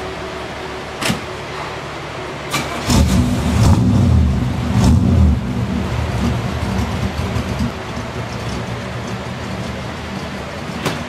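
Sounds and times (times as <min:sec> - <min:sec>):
car engine starting and idling: 0:02.1 - 0:11.0.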